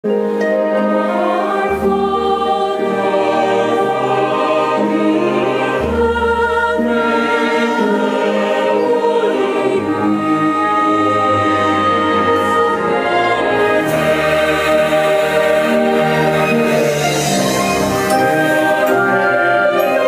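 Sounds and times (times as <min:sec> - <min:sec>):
choir singing sacred music: 0:00.6 - 0:20.0.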